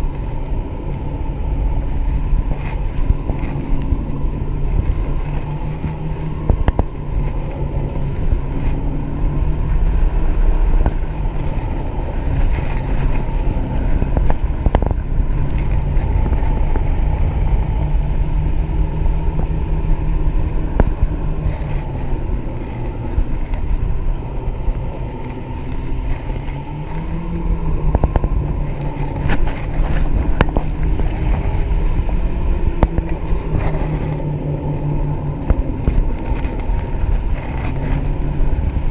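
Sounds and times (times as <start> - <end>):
outboard motor drone: 0.0 - 38.9
wind on microphone: 0.0 - 38.9.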